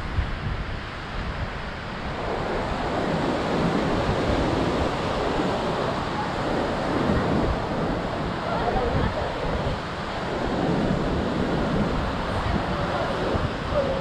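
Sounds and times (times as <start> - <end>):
sea surf washing onto beach: 0.0 - 14.0
wind buffeting microphone: 0.0 - 14.0.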